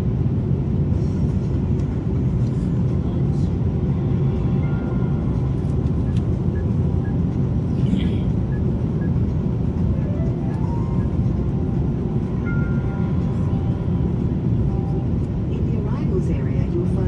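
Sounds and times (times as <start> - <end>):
airliner cabin roar: 0.0 - 17.0
faint music: 1.0 - 17.0.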